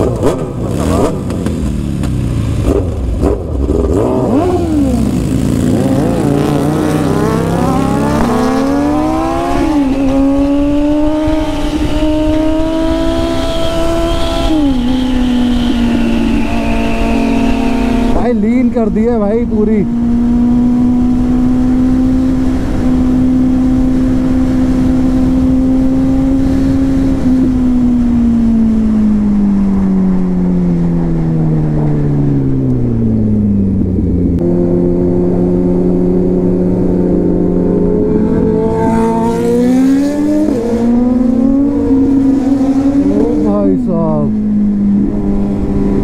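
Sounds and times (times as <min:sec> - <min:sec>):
motorcycle engine revving: 0:00.0 - 0:46.0
wind rush: 0:04.2 - 0:46.0.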